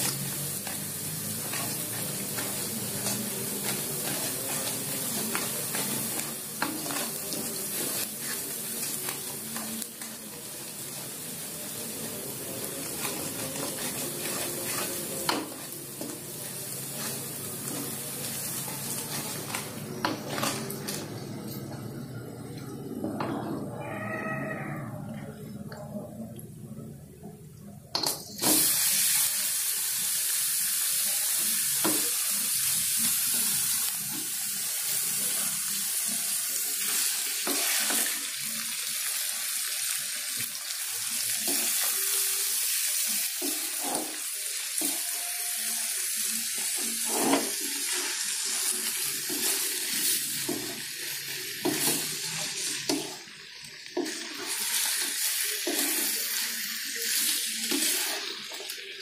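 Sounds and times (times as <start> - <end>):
meat sizzling in hot oil: 0.0 - 21.0, 28.4 - 59.0.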